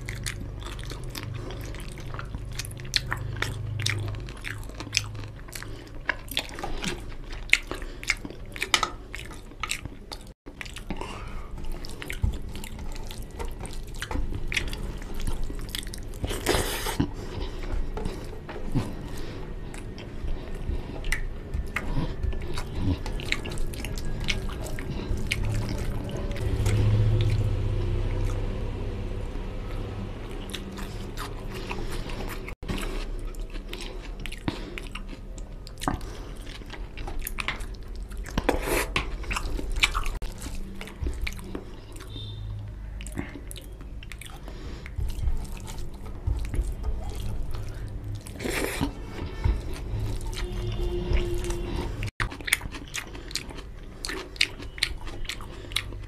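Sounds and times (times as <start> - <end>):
wet chewing with smacks: 0.0 - 56.0.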